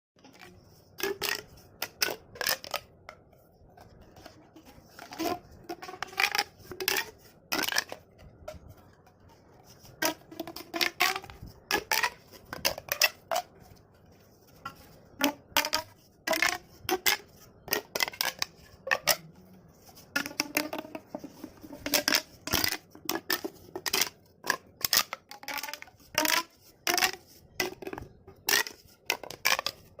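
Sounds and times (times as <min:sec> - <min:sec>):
plastic pop tubes snapping: 0:00.2 - 0:03.0, 0:04.0 - 0:13.6, 0:14.6 - 0:30.0.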